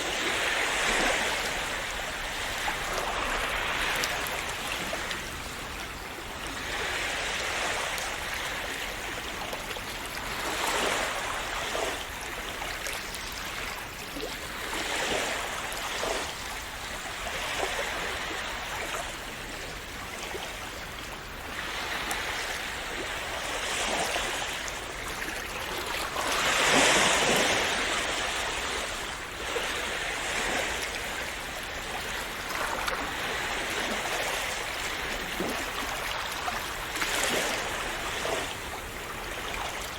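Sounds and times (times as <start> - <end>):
sea waves splashing on shore: 0.0 - 39.9.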